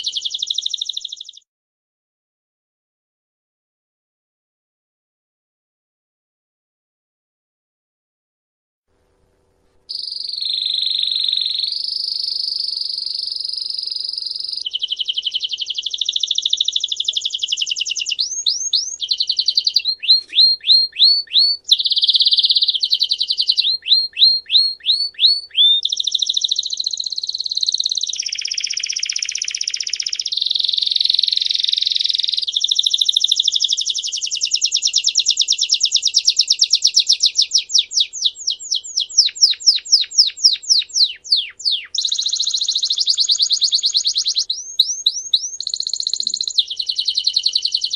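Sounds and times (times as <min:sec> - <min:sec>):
songbird singing fast trills: 0:00.0 - 0:01.5, 0:09.9 - 0:47.9.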